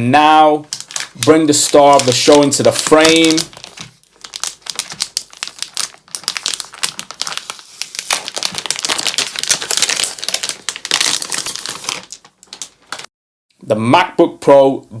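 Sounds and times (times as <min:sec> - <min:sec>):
plastic packaging crinkling: 0:00.6 - 0:13.1.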